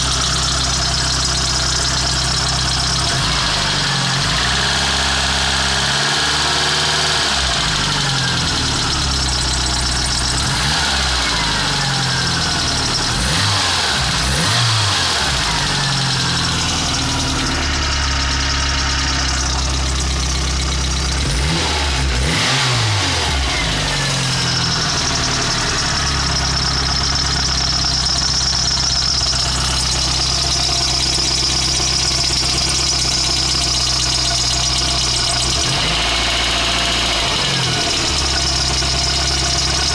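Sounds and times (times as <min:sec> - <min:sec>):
rattling petrol engine revving: 0:00.0 - 0:39.9.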